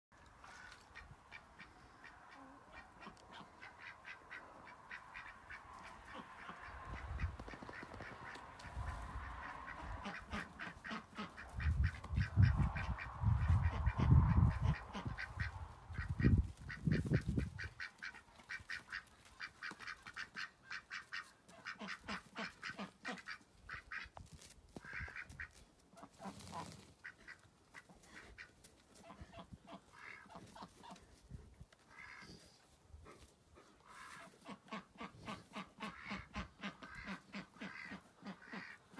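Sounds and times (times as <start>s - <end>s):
ducks quacking: 0.4s - 24.1s, 24.8s - 31.1s, 31.9s - 38.9s.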